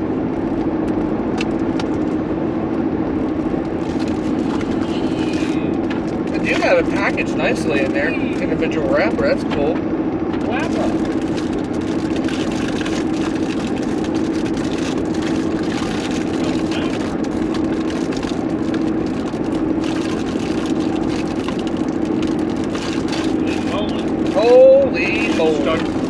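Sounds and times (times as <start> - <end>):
road and engine noise in car: 0.0 - 26.0.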